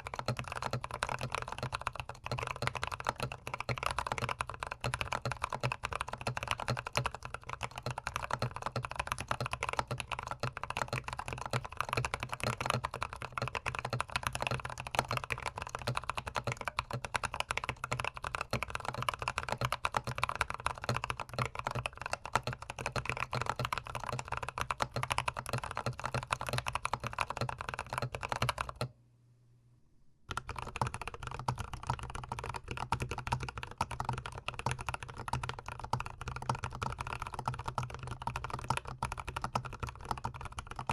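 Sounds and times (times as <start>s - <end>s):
fast typing on mechanical keyboard: 0.0s - 28.9s, 30.3s - 40.9s.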